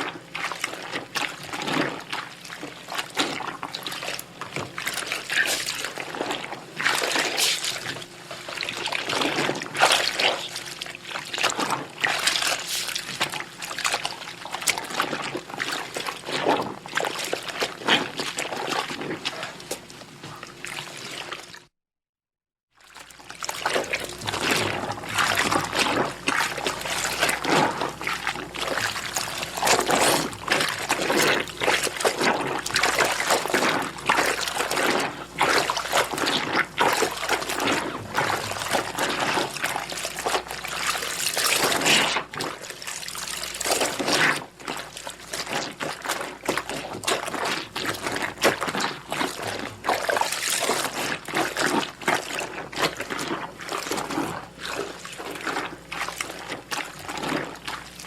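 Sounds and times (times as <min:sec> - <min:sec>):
clothes sloshing in water: 0:00.0 - 0:21.7, 0:22.8 - 0:58.0.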